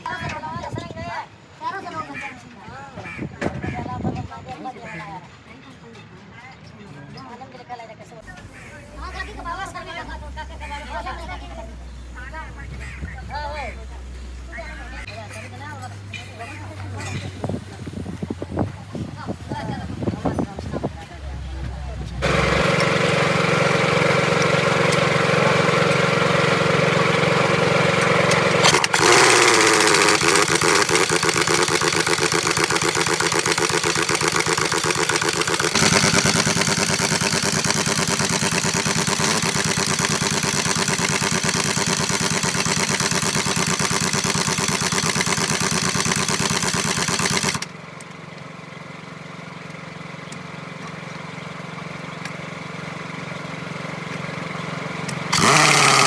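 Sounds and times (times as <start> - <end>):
engine running: 8.2 - 56.0.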